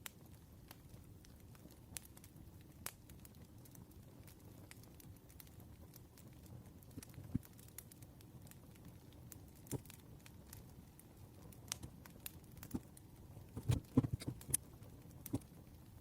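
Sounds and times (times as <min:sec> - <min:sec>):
campfire crackling and popping: 0:00.0 - 0:16.0
faint fire hiss: 0:00.0 - 0:16.0.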